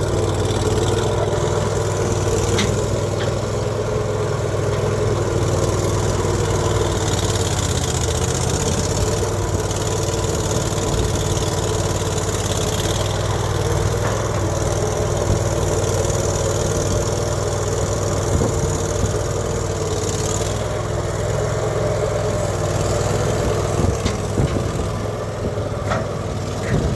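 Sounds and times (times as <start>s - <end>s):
engine idling: 0.0s - 26.9s.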